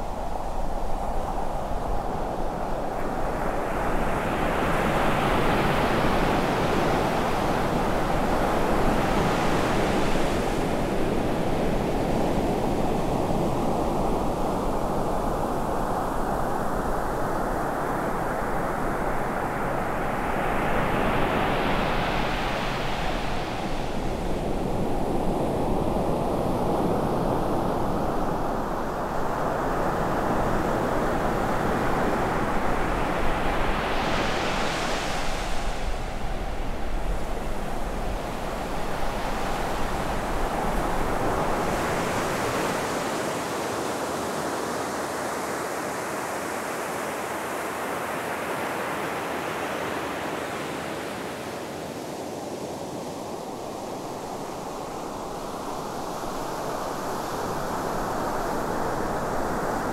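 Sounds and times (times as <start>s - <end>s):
ocean surf breaking on beach: 2.8s - 59.9s.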